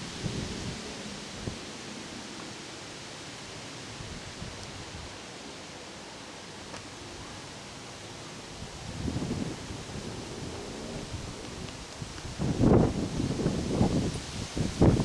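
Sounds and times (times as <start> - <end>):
strong wind rushing through trees: 0.0 - 15.0.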